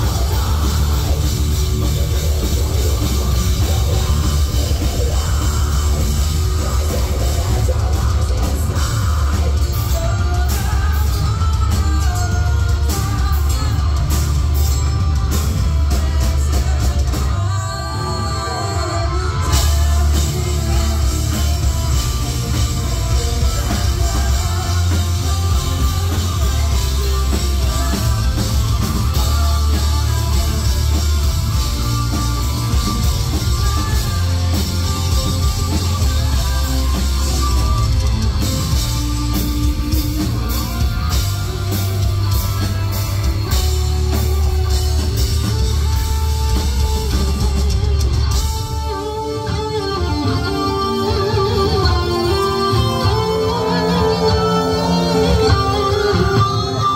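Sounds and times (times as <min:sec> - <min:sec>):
heavy metal band playing: 0:00.0 - 0:56.9.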